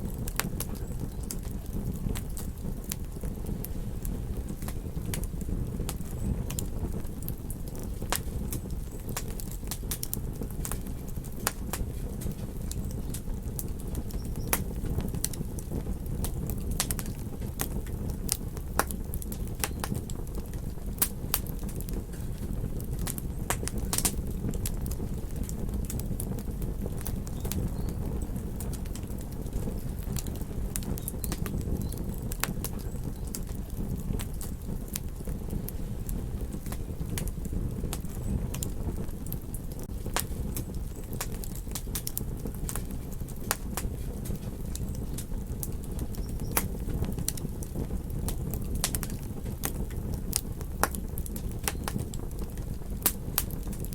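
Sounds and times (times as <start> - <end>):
burning wood popping: 0.0 - 53.9
campfire crackling: 0.0 - 53.9.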